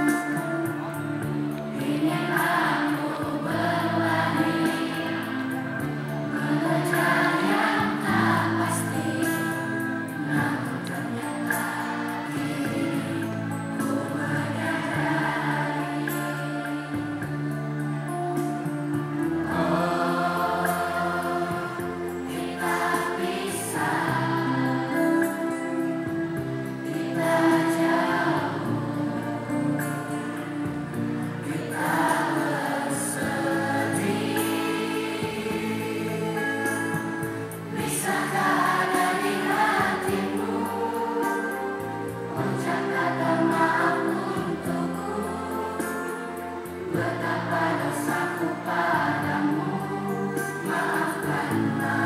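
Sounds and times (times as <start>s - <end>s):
children's choir singing: 0.0s - 52.0s.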